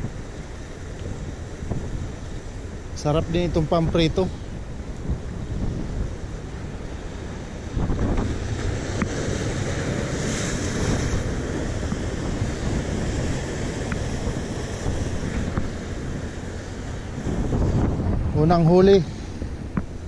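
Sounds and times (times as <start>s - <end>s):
surf washing against rocks: 0.0s - 20.0s
wind buffeting microphone: 0.0s - 20.0s.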